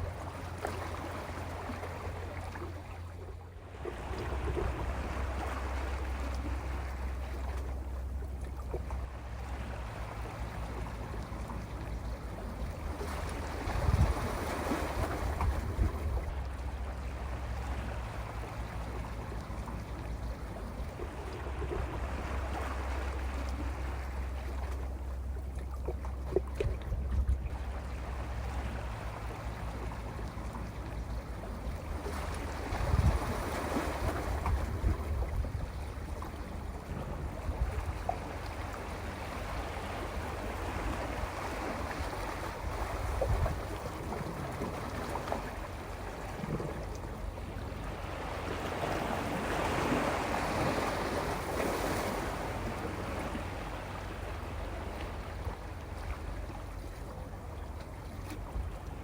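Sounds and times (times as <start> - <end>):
sea waves on rocky shore: 0.0 - 59.0.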